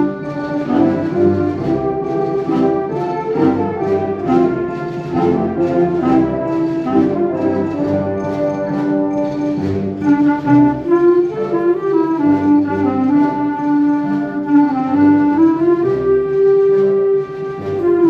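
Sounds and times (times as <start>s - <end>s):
wind band playing: 0.0s - 18.0s.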